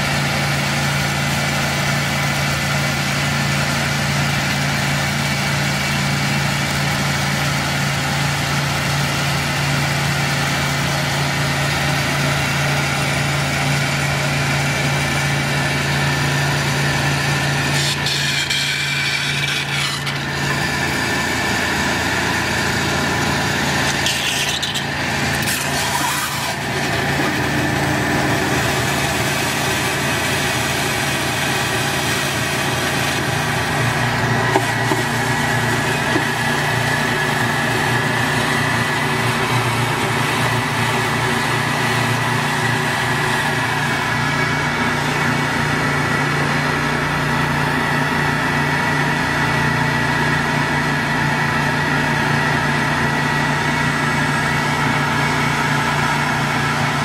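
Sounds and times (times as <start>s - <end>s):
pressure washer engine drone: 0.0s - 57.0s.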